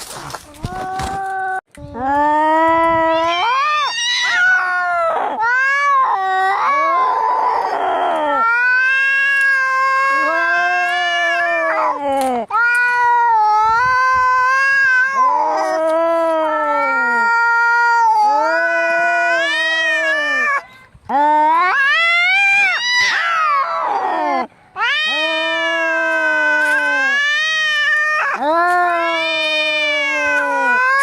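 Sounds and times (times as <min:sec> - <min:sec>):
cats yowling in a fight: 0:02.8 - 0:20.6, 0:21.5 - 0:31.0.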